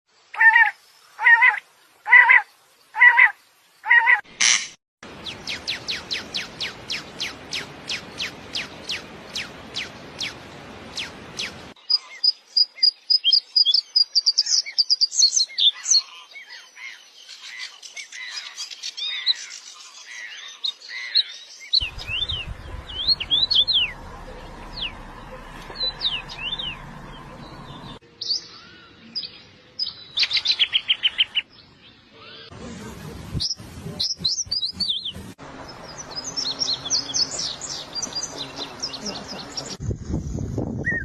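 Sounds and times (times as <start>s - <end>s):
songbirds chirping and singing: 5.2s - 32.6s, 33.4s - 39.8s.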